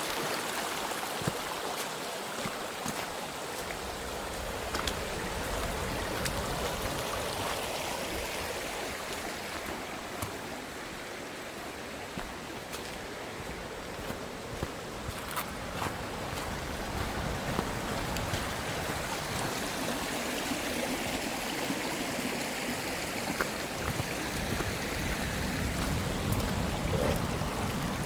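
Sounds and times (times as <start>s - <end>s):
creek water rushing: 0.0s - 28.0s.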